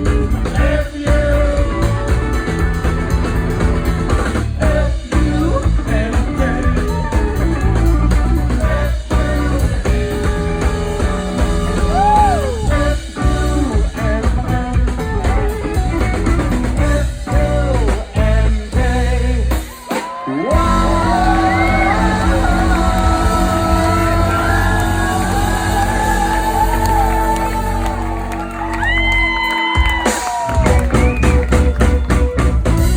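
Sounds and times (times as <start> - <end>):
rock band playing: 0.0 - 32.9.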